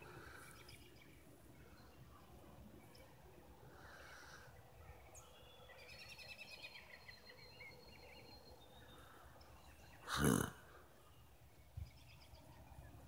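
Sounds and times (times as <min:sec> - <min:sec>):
bird song with chattering notes: 0:00.2 - 0:03.5, 0:04.5 - 0:10.1, 0:11.0 - 0:13.0.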